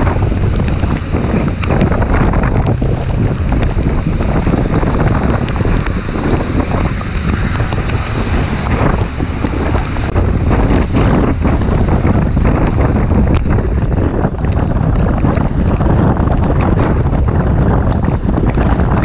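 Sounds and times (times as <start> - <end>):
deep rumble: 0.0 - 19.0
wind buffeting microphone: 0.0 - 19.0.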